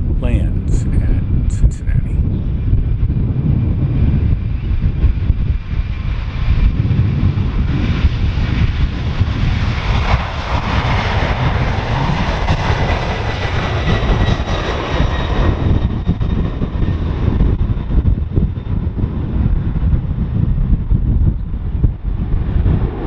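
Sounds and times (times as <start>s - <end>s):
jet engines at takeoff: 0.0s - 23.0s.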